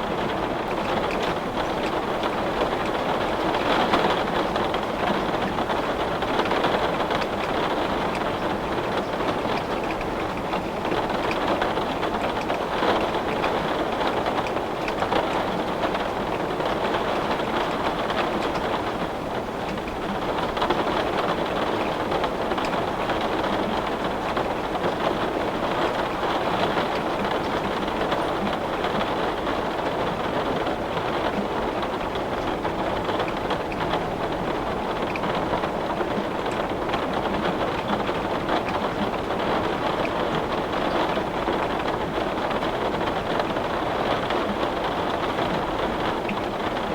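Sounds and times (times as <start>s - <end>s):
heavy rain on window glass: 0.0s - 46.9s.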